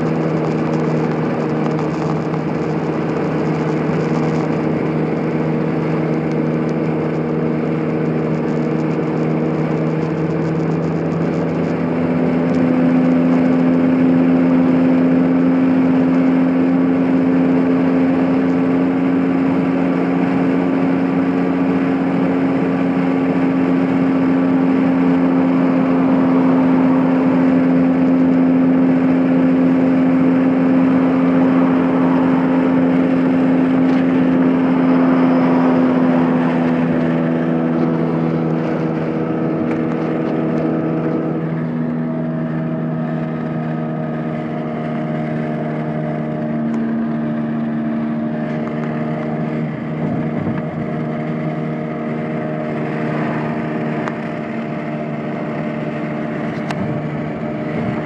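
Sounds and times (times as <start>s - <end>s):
car engine running: 0.0s - 58.0s
tyre and road noise: 0.0s - 58.0s.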